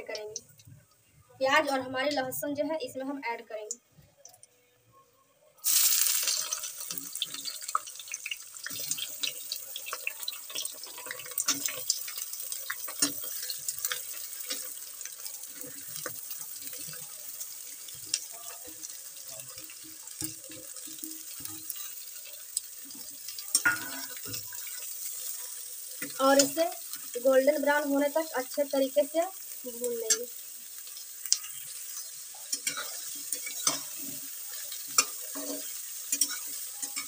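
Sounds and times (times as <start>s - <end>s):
onions sizzling in hot oil: 0.0s - 3.8s, 5.6s - 37.0s.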